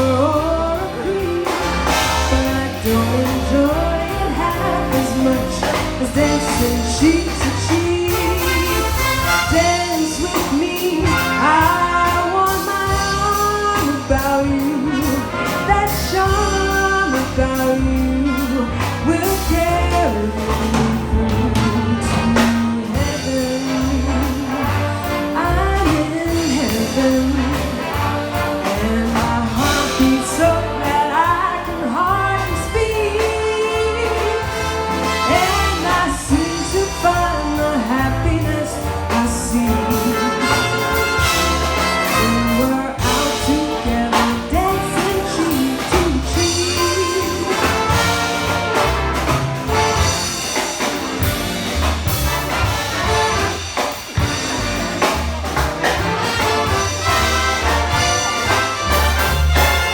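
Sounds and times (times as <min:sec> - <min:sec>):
big band playing swing jazz: 0:00.0 - 0:59.9.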